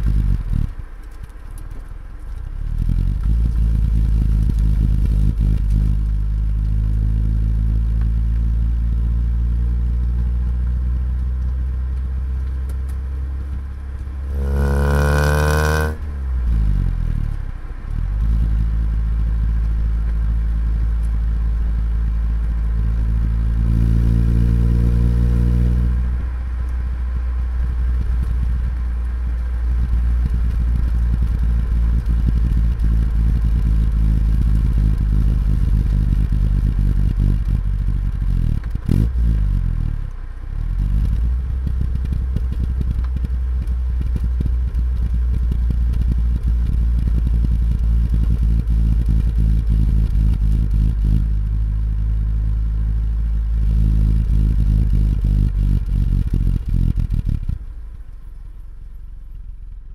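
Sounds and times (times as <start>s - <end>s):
car engine exhaust revving: 0.0s - 0.8s, 2.4s - 59.3s.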